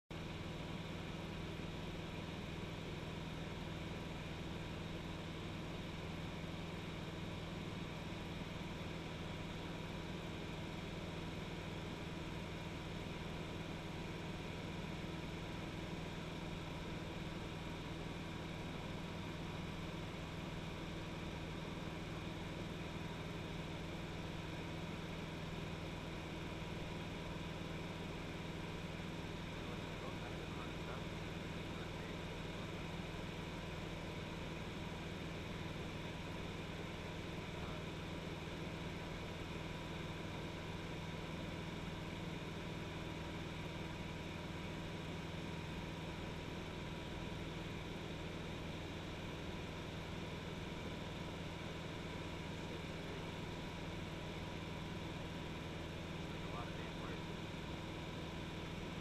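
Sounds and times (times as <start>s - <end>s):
light plane engine drone: 0.1s - 59.0s.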